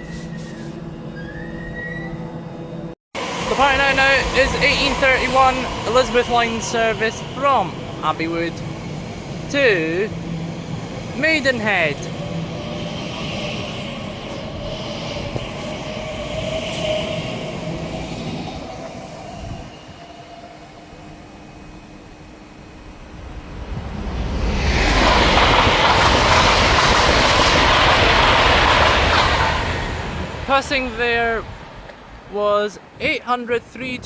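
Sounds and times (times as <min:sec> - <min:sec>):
train passing at speed: 0:02.4 - 0:33.0.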